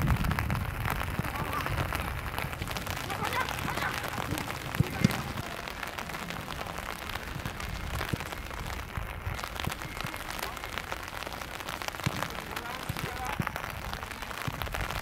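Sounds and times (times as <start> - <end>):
rain hiss: 0.0 - 15.0
raindrops ticking: 0.0 - 15.0.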